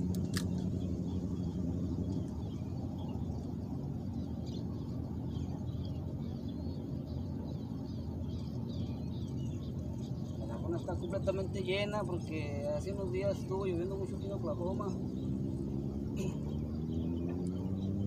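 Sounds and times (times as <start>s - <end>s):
low hum: 0.0s - 18.0s
low outdoor rumble: 0.0s - 18.0s
small birds chirping: 0.0s - 18.0s.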